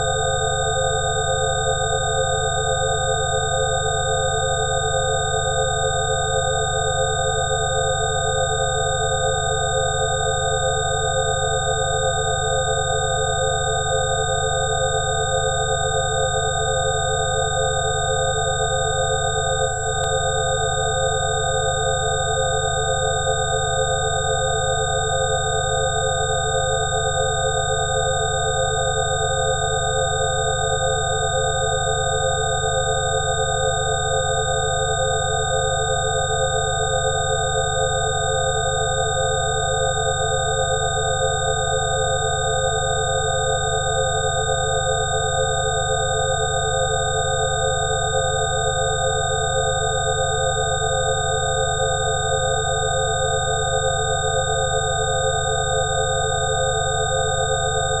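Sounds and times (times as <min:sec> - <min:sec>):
electronic sine tone drone: 0:00.0 - 0:58.0.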